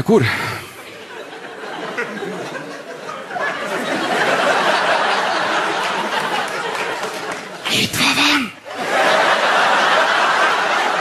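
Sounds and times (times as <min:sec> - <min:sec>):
audience laughing: 0:00.7 - 0:11.0.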